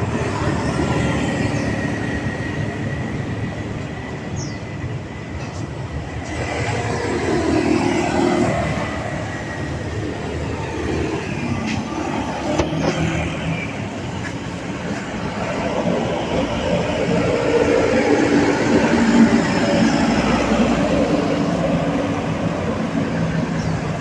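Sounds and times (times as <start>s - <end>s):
passing vehicle engines: 0.0s - 24.0s.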